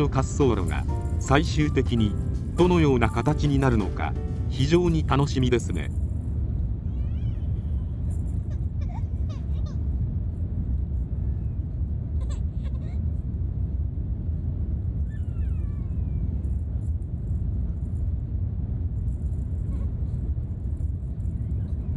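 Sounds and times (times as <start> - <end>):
jet airliner cabin rumble: 0.0 - 21.9.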